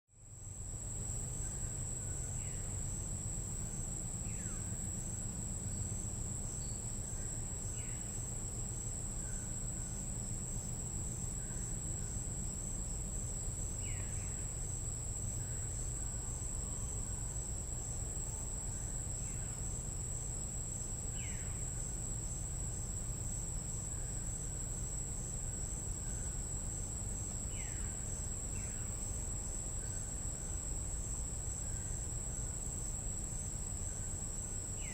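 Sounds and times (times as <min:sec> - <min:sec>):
night insects trilling: 0:00.2 - 0:34.9.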